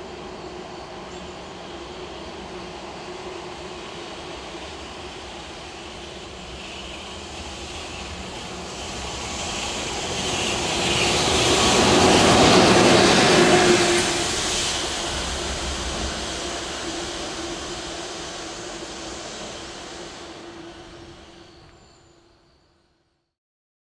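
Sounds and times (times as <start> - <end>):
freight locomotive passing: 0.0 - 22.9.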